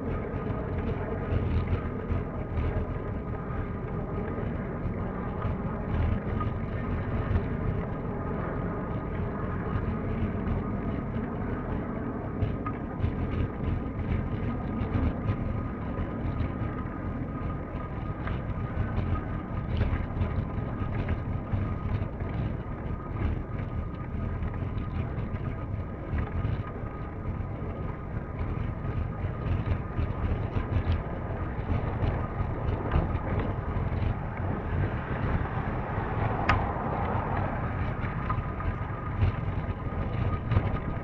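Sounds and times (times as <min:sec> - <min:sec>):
faint steady whine: 0:00.0 - 0:41.0
small rattles and clicks: 0:00.0 - 0:41.0
wind rumble on microphone: 0:00.0 - 0:41.0.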